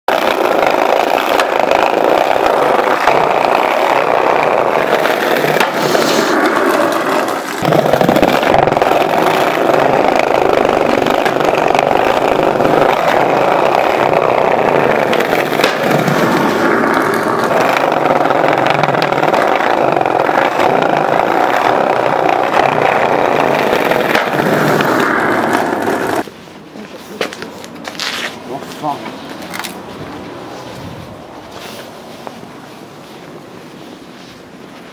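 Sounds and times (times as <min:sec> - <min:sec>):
skateboard wheels rolling on tiles: 0:00.1 - 0:34.9.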